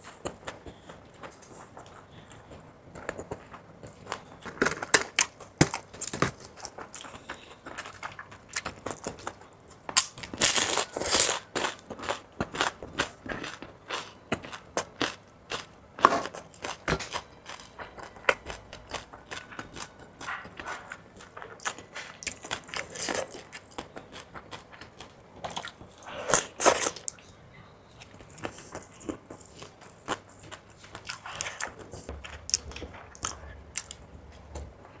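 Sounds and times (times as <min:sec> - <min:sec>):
crunchy biting and chewing: 0:01.5 - 0:27.2, 0:28.0 - 0:34.5.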